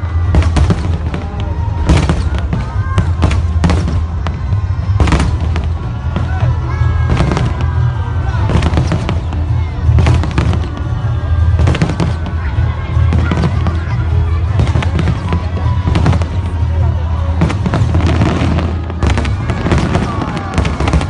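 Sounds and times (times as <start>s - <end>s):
fireworks bursting: 0.0s - 21.0s
low rumble of fireworks: 0.0s - 21.0s.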